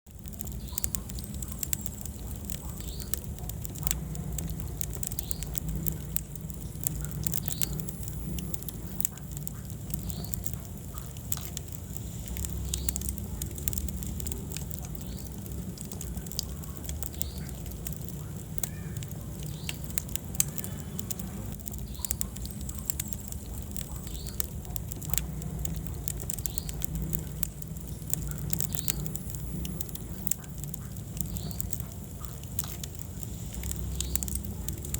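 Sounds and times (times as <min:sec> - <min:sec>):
flames rumbling: 0:00.0 - 0:34.9
wood fire crackling and popping: 0:00.0 - 0:34.9.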